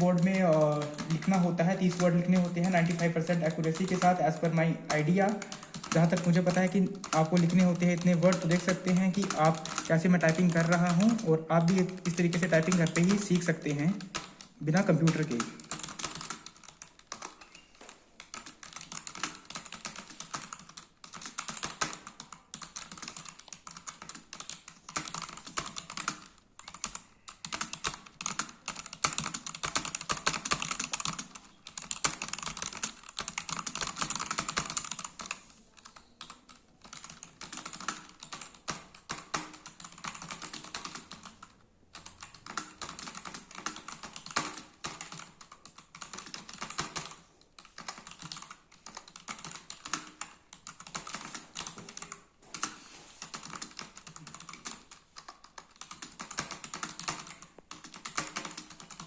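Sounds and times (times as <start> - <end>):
keyboard typing clicks: 0.0 - 59.0.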